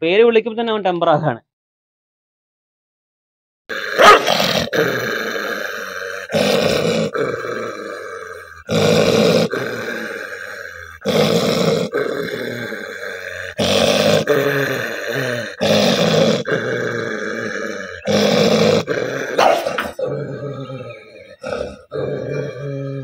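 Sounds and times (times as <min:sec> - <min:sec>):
dog growling and snarling: 0:03.7 - 0:23.0.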